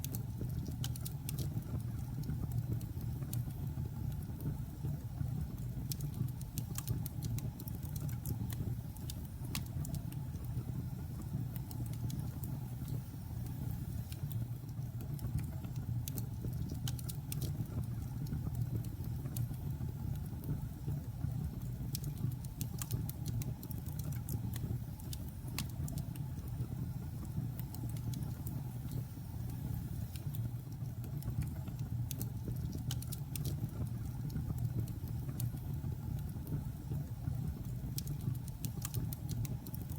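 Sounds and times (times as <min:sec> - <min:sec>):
logs burning in a fireplace: 0:00.0 - 0:39.9.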